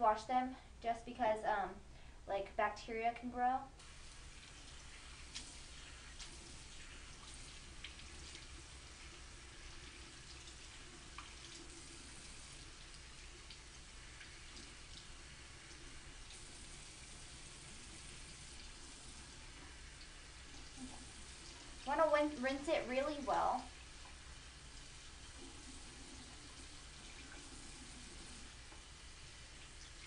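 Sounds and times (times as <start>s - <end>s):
faucet running into sink: 3.8s - 30.0s.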